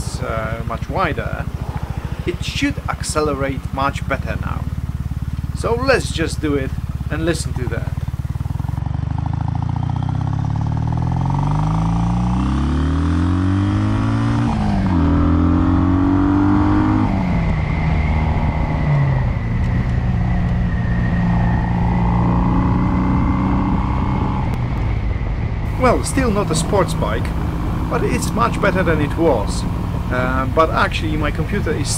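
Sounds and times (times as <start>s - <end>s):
motorcycle accelerating: 0.0s - 31.9s.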